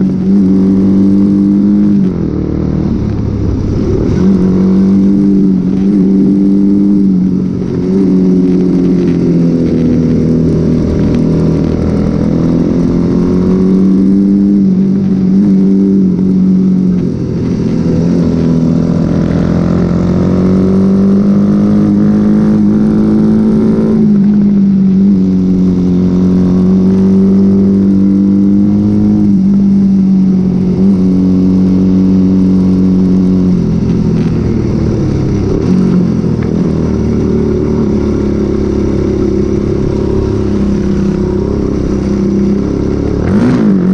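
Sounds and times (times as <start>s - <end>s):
motorcycle engine shifting gears: 0.0s - 43.9s.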